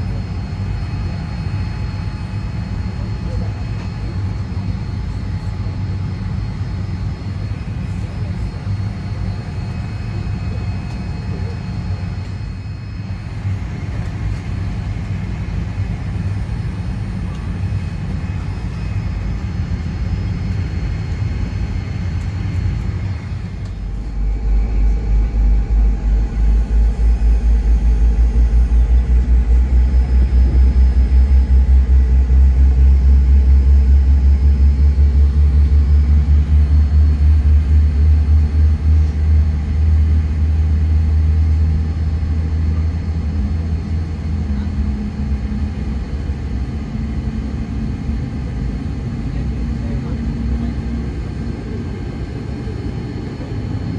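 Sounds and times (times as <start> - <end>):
faint steady engine whine: 0.0 - 53.9
low cabin rumble: 0.0 - 53.9.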